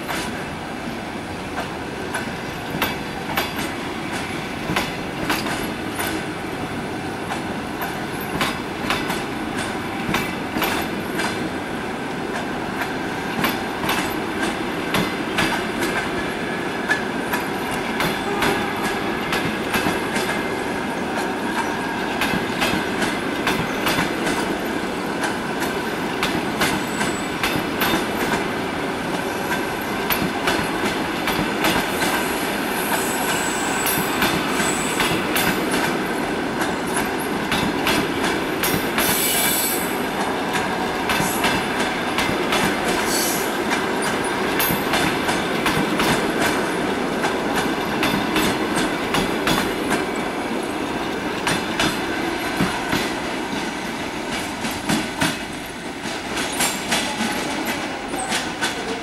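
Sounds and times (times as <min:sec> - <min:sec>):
train wheels clicking over rail joints: 0:00.0 - 0:00.5, 0:01.4 - 0:59.0.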